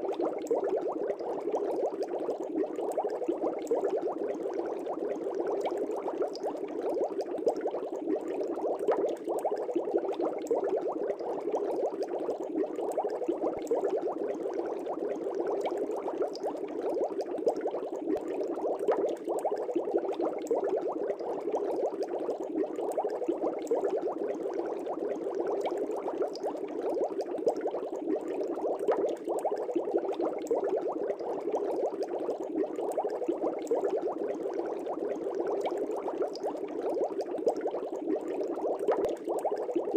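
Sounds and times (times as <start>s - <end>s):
aquarium air bubbles bubbling: 0.0s - 39.9s.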